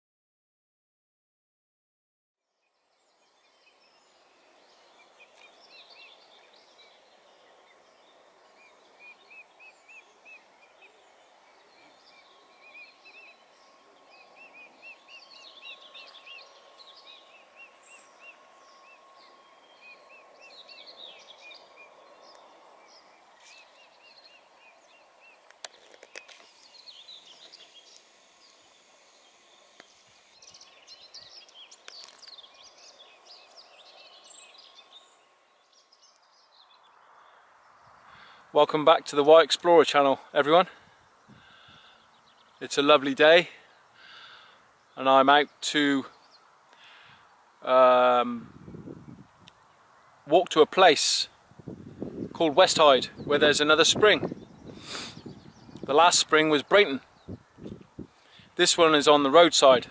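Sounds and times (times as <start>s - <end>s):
faint background hiss: 2.6s - 59.9s
small birds chirping: 2.6s - 59.9s.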